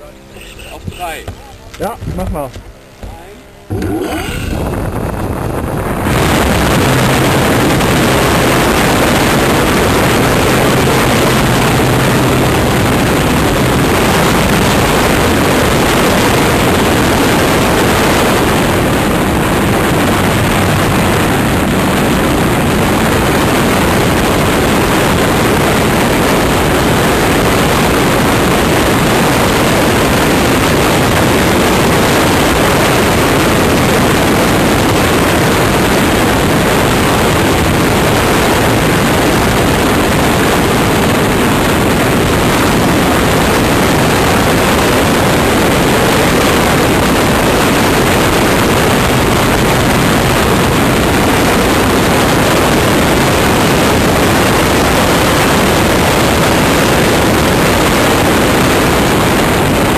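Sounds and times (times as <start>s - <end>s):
faint motor and propeller hum: 0.0s - 59.9s
wind rush over microphone: 0.0s - 59.9s.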